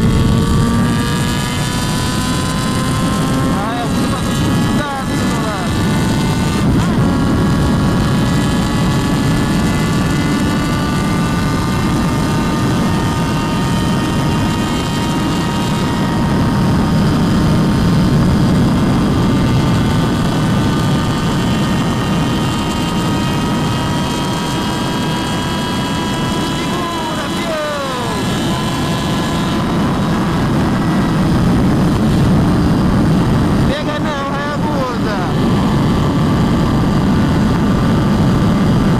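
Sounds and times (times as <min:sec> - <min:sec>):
motorcycle engine running hard: 0:00.0 - 0:38.9
wind rush on microphone: 0:00.0 - 0:38.9.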